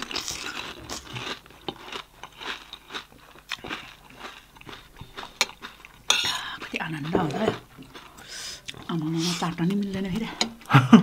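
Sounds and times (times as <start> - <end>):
crunching crisp fried shells: 0.0 - 10.2.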